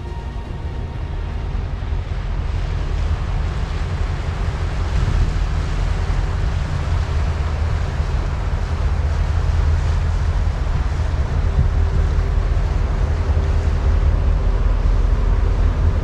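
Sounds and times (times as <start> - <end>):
ship engine rumble: 0.0 - 16.0
wind buffeting microphone: 0.0 - 16.0.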